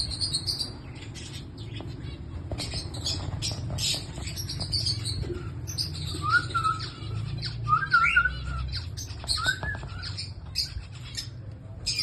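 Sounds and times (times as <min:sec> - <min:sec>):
bird warbling calls: 0:00.0 - 0:12.0
high bird chirps: 0:00.0 - 0:12.0.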